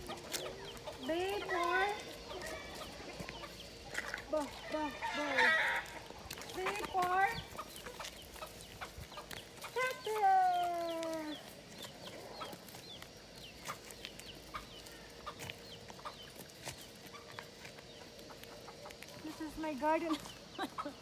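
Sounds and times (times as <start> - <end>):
chickens calling and clucking: 0.0 - 21.0
footsteps on stony ground: 0.0 - 21.0.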